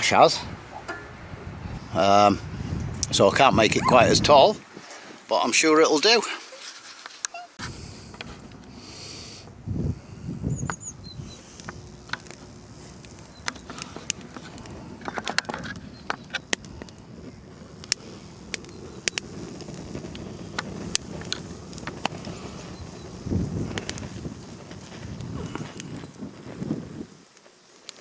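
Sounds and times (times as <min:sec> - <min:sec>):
low rushing stove sound: 0:00.0 - 0:05.4, 0:06.7 - 0:28.0
wood fire crackling and popping: 0:02.0 - 0:28.0.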